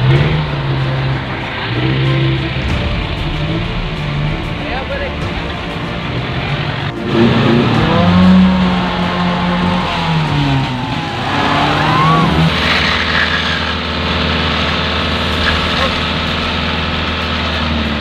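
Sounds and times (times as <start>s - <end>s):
off-road engine revving in mud: 0.0s - 18.0s.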